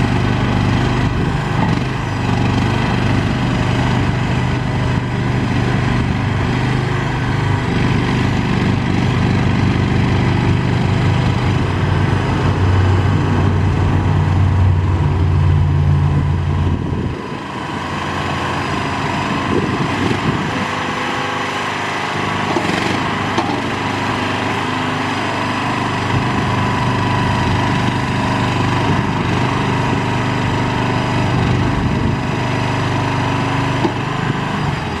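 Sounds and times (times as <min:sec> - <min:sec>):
skid steer loader engine running: 0:00.0 - 0:35.0.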